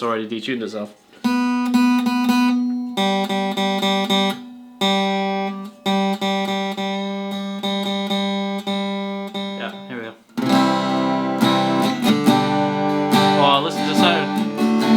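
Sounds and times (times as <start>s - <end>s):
acoustic guitar strummed in chords: 1.1s - 14.9s.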